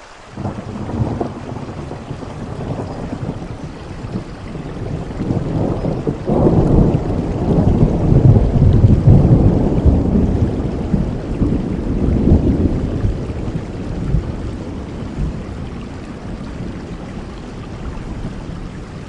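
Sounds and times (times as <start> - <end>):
steady rain: 0.0 - 19.0
thunder rumbling: 0.4 - 19.0.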